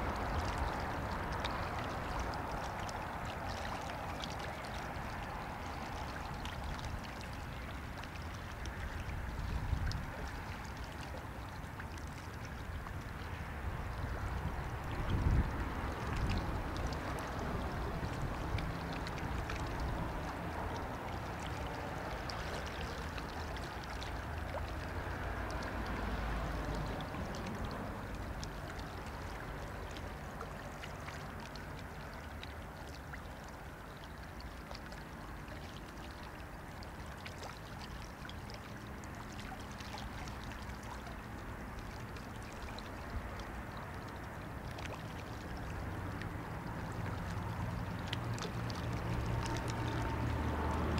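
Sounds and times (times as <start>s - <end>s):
water lapping at riverbank: 0.0s - 50.9s.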